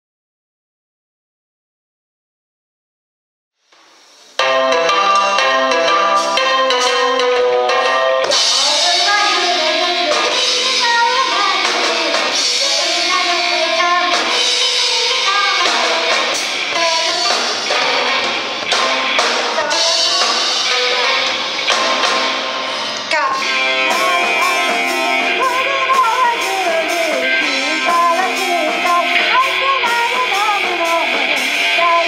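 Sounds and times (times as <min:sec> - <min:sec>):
drum kit and cymbals: 0:03.6 - 0:32.0
electric guitars: 0:04.4 - 0:32.0
person singing: 0:05.0 - 0:21.5, 0:22.6 - 0:32.0.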